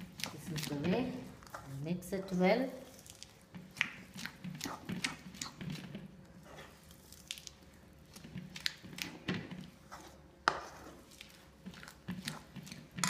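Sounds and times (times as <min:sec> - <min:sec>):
spoon stirring sticky mixture: 0:00.0 - 0:13.0.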